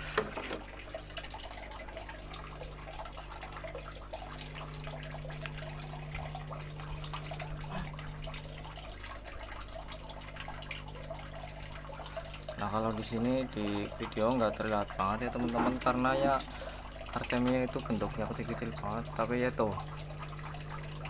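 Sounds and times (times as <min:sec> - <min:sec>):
water trickling and dripping: 0:00.0 - 0:21.0
steady low hum: 0:00.8 - 0:21.0.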